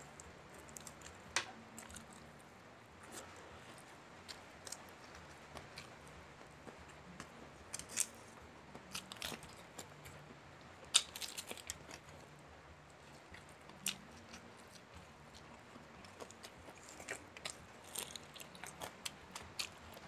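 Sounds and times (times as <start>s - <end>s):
chewing: 0.0s - 12.3s, 12.9s - 20.0s.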